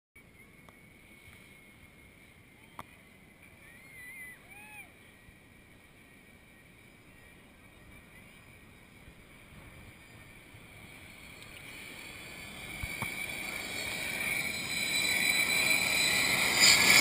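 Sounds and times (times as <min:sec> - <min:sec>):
jet engines whine and hiss: 0:00.2 - 0:17.0.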